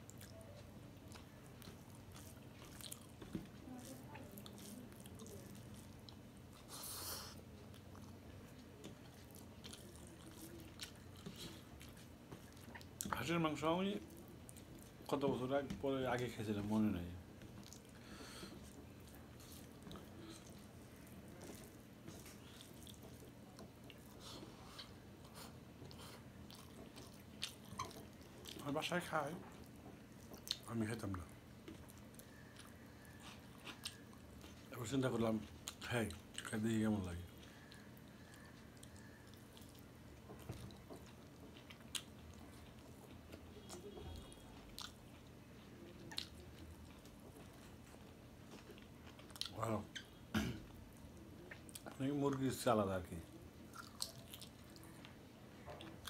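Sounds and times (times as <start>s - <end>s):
soft chewing with wet clicks: 0.0s - 56.0s.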